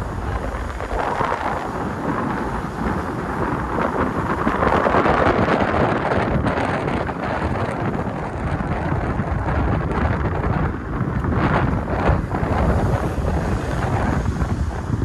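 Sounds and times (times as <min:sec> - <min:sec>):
traffic and road noise: 0:00.0 - 0:15.0
wind buffeting microphone: 0:00.0 - 0:15.0.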